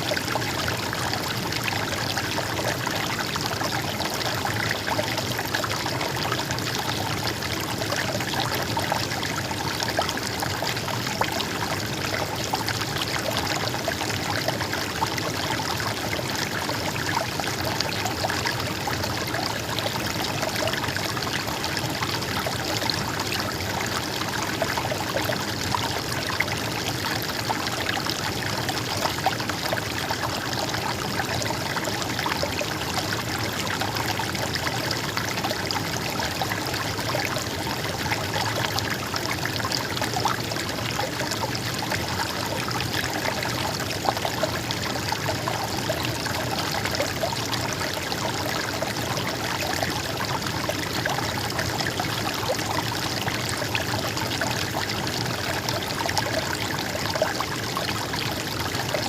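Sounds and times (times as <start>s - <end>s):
stream water trickling and splashing: 0.0s - 59.0s.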